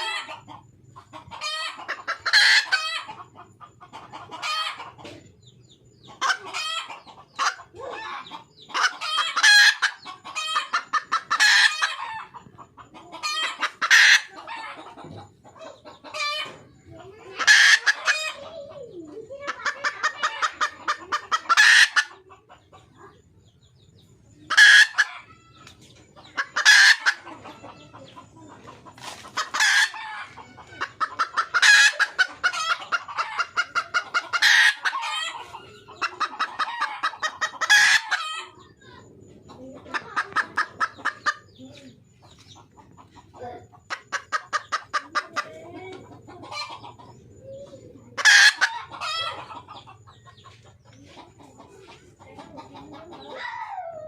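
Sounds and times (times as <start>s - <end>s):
hen clucking: 0.0s - 54.0s.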